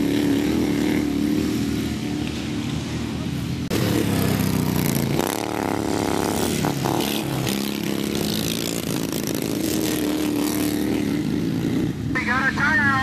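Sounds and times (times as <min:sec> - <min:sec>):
lawn mower engines revving: 0:00.0 - 0:13.0.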